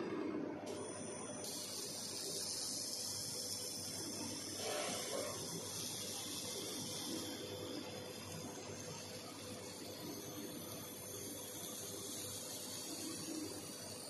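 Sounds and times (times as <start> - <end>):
faint machine hum: 0.0 - 14.0
machine hissing: 0.0 - 14.0.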